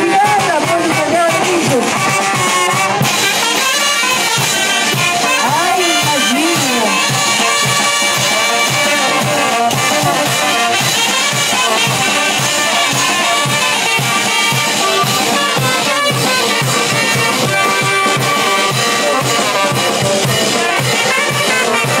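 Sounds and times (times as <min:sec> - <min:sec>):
brass band playing dance rhythm: 0:00.0 - 0:22.0.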